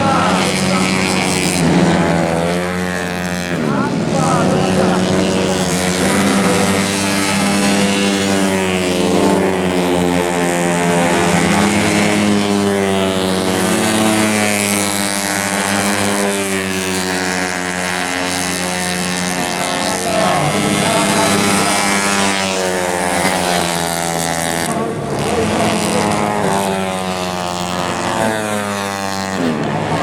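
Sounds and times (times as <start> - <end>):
scooter engines racing: 0.0 - 30.0.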